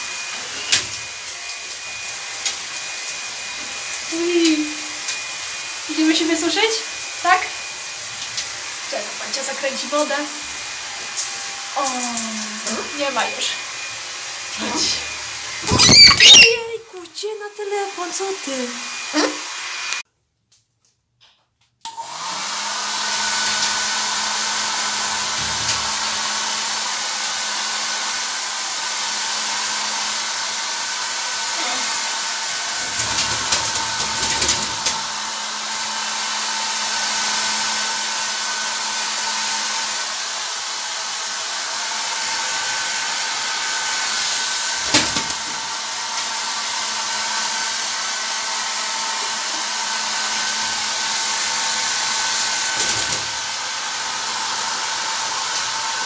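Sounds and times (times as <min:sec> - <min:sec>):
hair dryer blowing: 0:00.0 - 0:20.1, 0:21.9 - 0:56.0.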